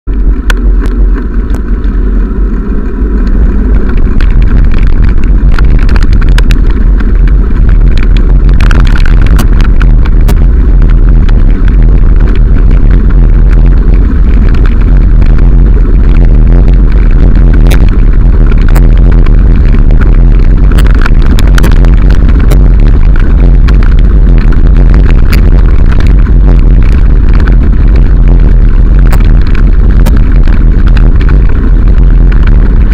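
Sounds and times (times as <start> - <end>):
wind buffeting microphone: 0.1 - 32.9.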